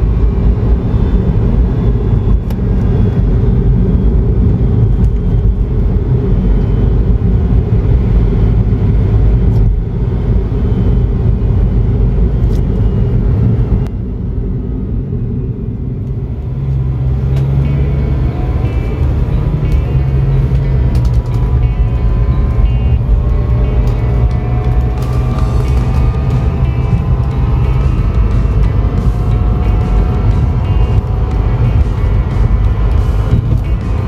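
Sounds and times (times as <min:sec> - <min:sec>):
car road rumble: 0:00.0 - 0:34.0.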